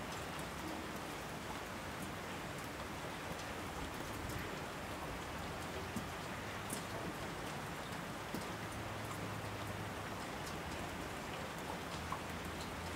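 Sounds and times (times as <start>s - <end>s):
steady rain hiss: 0.0s - 12.9s.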